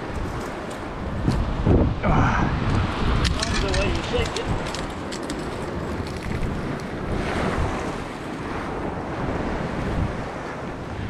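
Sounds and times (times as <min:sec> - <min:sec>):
ocean surf washing on rocks: 0:00.0 - 0:11.0
wind buffeting microphone: 0:00.0 - 0:11.0.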